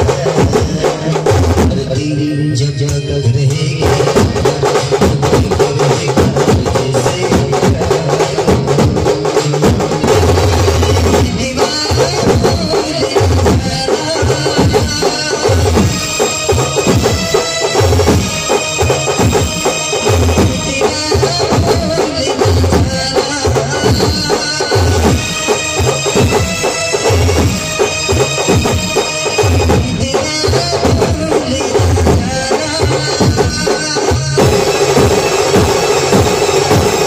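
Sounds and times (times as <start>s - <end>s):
deep low drum beats: 0.0s - 2.1s, 3.4s - 37.0s
steel drums beating fast rhythm: 0.0s - 2.1s, 2.8s - 37.0s
street band playing: 0.0s - 37.0s.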